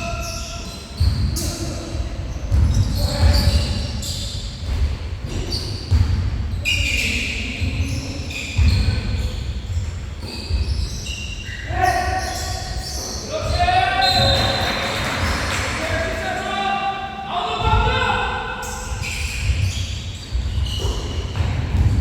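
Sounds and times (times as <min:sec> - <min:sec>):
shoe squeaks: 0:00.0 - 0:16.0, 0:17.5 - 0:22.0
basketball bouncing in a hall: 0:00.0 - 0:16.4, 0:17.4 - 0:22.0.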